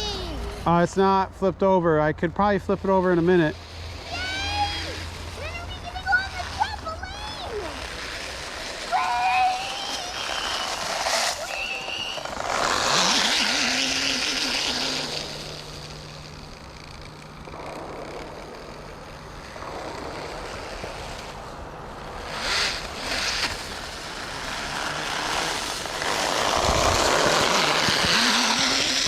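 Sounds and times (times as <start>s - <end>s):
faint steady hum: 0.0s - 29.0s
tyres running over ground: 0.0s - 29.0s
electric motor whirring: 3.1s - 29.0s.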